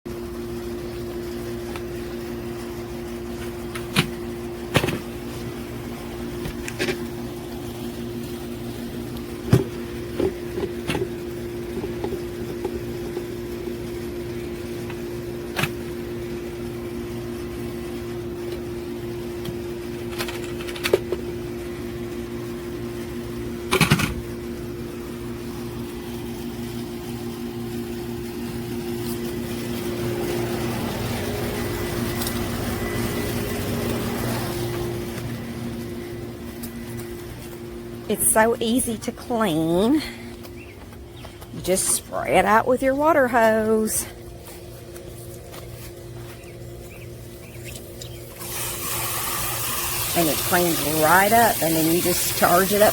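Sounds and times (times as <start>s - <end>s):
electric motor humming: 1.5s - 52.9s.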